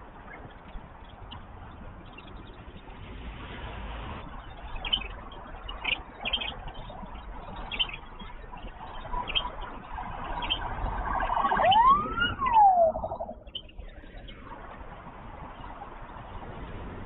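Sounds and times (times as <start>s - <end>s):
passing vehicle whine: 0.0s - 17.0s
road traffic noise: 0.0s - 17.0s.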